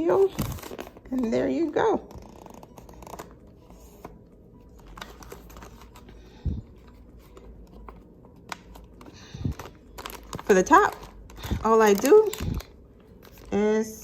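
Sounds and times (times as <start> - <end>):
paper wrapper rustling: 0.0 - 13.6.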